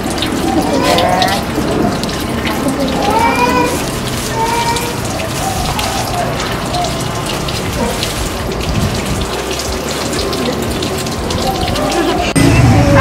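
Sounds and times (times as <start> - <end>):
tap water splashing into basin: 0.0 - 12.4.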